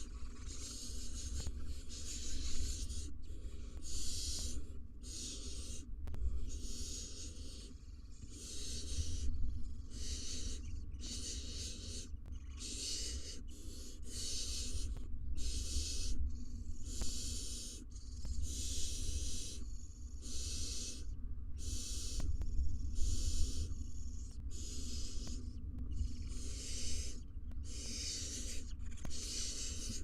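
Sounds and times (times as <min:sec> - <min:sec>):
owl nestlings hissing begging calls: 0:00.0 - 0:30.0
steady low hum: 0:00.0 - 0:30.0.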